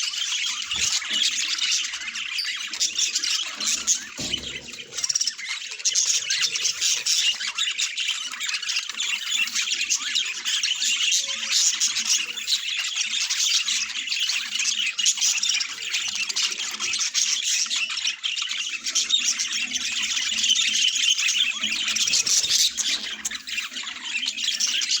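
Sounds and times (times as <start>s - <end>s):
budgerigars chattering and squawking: 0.0s - 25.0s.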